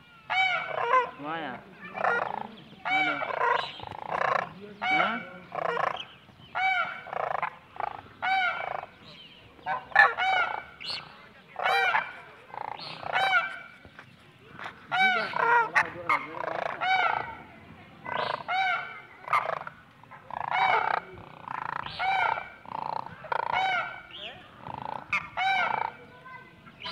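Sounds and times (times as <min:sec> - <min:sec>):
partridge calling: 0:00.3 - 0:26.9.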